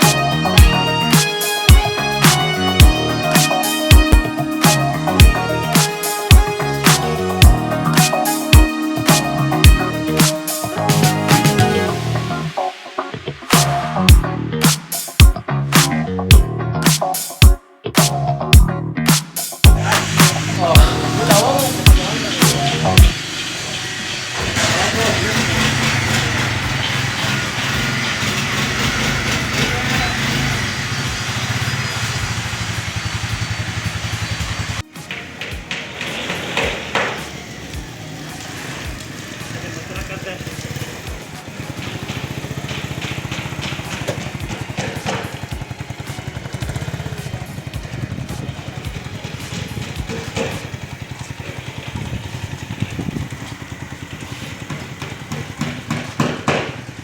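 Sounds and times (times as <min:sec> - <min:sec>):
motorcycle engine running: 0:00.0 - 0:12.6, 0:13.2 - 0:16.8, 0:19.6 - 0:57.0.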